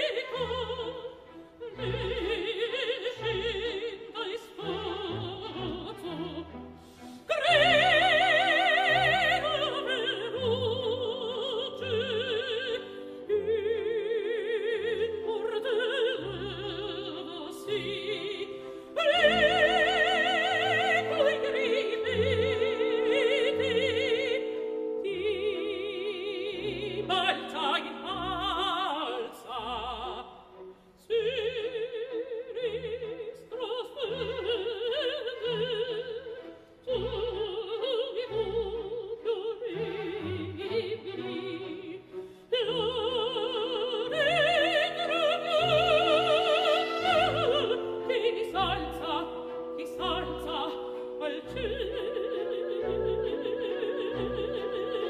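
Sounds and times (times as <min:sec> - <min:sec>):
light orchestral accompaniment: 0:00.0 - 0:55.0
woman singing operatic aria: 0:00.0 - 0:55.0.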